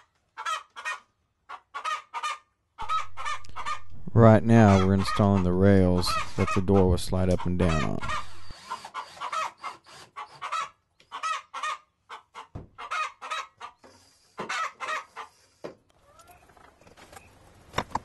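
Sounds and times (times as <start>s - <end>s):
chickens clucking: 0.2s - 15.4s.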